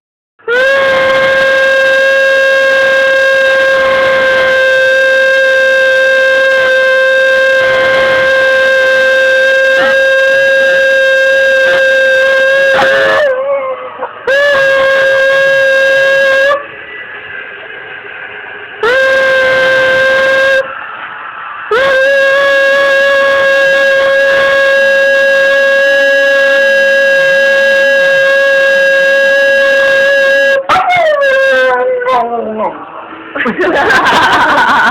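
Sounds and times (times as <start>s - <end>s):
horn blasts: 0.4s - 13.4s, 14.1s - 30.7s.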